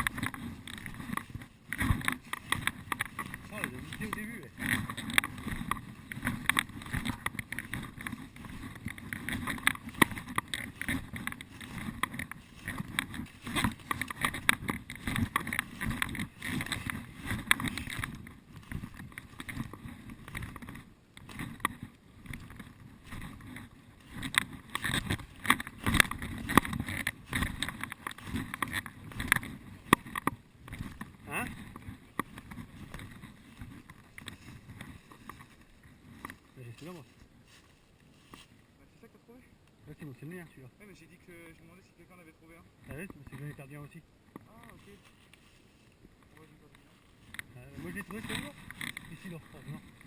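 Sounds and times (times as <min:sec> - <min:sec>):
footsteps crunching through leaves: 0:00.0 - 0:38.6, 0:44.7 - 0:46.0, 0:46.7 - 0:50.0.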